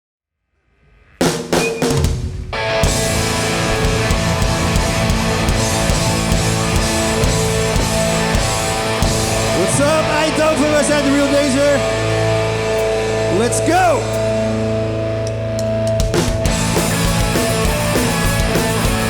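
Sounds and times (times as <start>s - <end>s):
live hardcore band playing: 1.2s - 19.0s.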